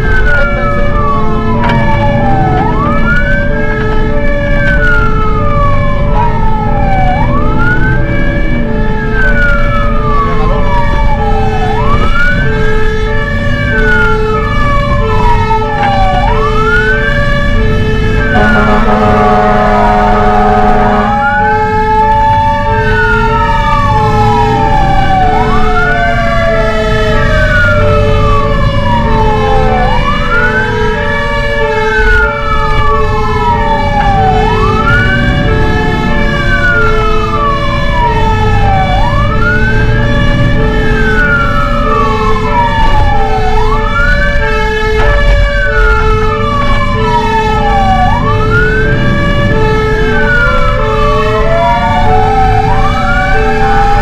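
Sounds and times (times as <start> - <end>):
fire engine siren wailing: 0.0 - 54.0
low pulsing siren tone: 0.0 - 54.0
truck engine rumbling: 0.0 - 54.0.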